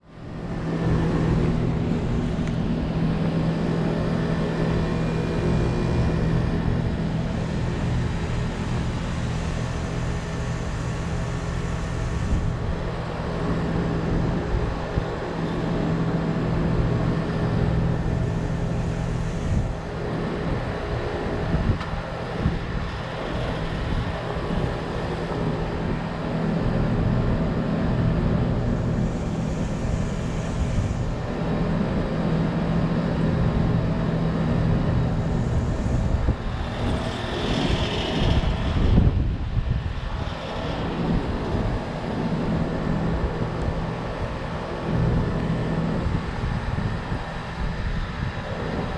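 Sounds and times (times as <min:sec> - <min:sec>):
compressor hum: 0:00.0 - 0:48.9.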